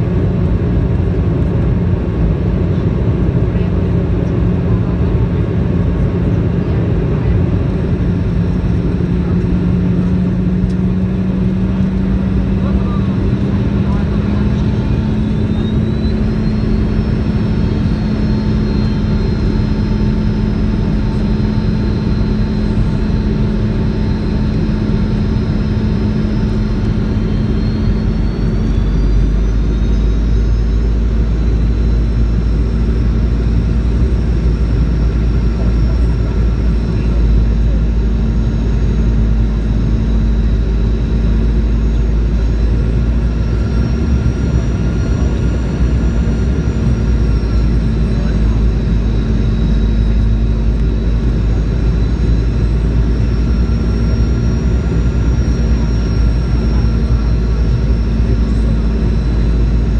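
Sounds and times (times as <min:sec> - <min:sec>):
high engine whine: 0:00.0 - 0:59.9
jet engine cabin roar: 0:00.0 - 0:59.9.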